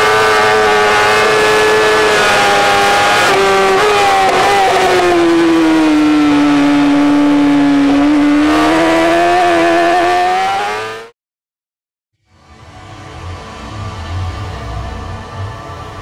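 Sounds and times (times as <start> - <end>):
racing motorcycle engine: 0.0 - 11.1, 12.4 - 16.0.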